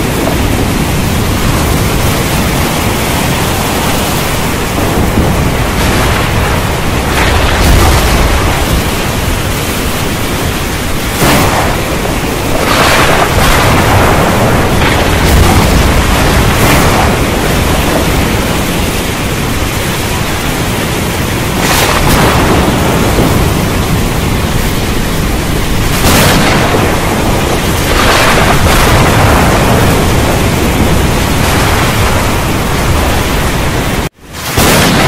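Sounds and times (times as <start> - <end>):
heavy steady rain: 0.0 - 35.0
loud thunder claps: 0.0 - 35.0
thunder rumbling: 0.0 - 35.0.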